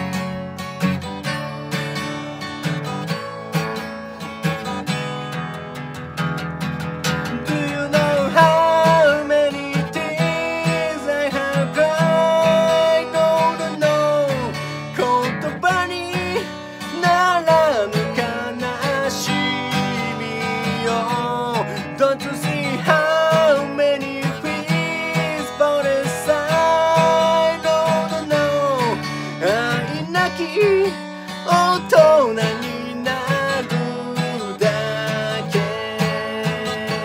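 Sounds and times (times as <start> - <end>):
acoustic guitar strumming: 0.0 - 37.0
man singing: 7.2 - 37.0.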